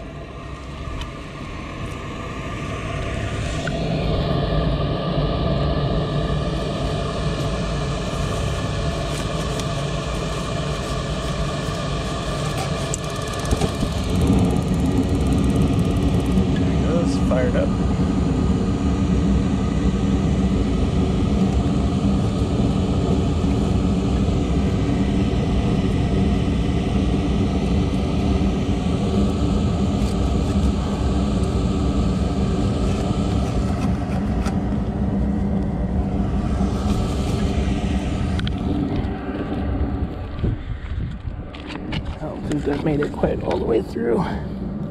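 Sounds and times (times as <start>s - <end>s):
mechanical hum with steady tones: 0.0s - 44.9s.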